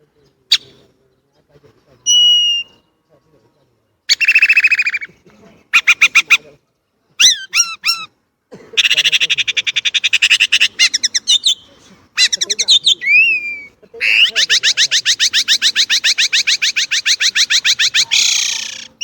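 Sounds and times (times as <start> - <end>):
blackbird singing: 0.1 - 1.3, 1.9 - 3.0, 4.1 - 5.2, 7.2 - 19.0.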